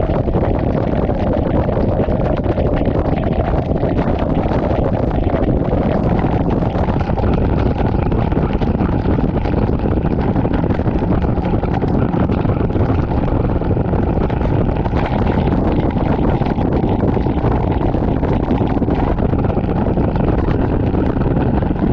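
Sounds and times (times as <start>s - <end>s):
wind rush on microphone: 0.0s - 21.9s.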